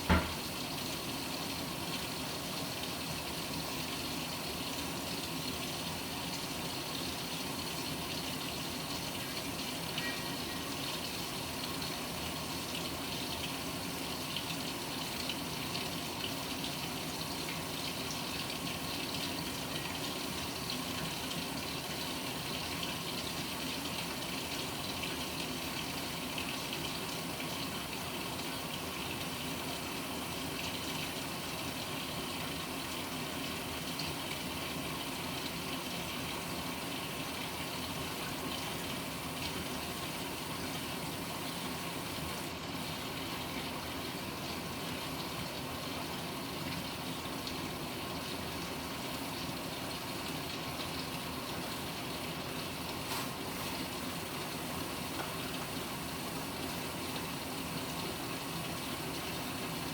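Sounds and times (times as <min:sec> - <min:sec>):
washing machine filling with water: 0:00.0 - 0:59.9.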